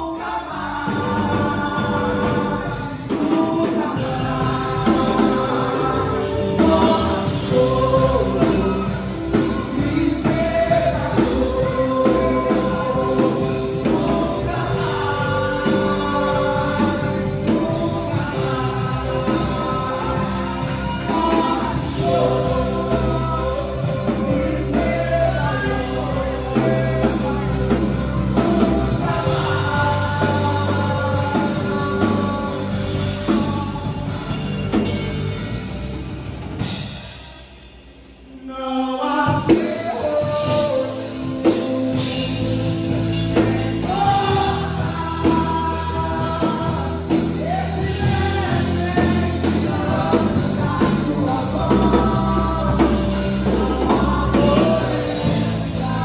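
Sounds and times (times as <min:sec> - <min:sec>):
gospel singers with band: 0:00.0 - 0:56.0.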